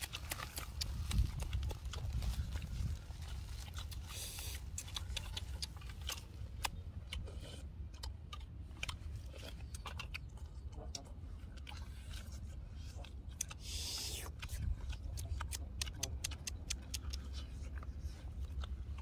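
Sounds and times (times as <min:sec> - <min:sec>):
meat torn from bone: 0:00.0 - 0:19.0
people chewing and lip smacking: 0:00.0 - 0:19.0.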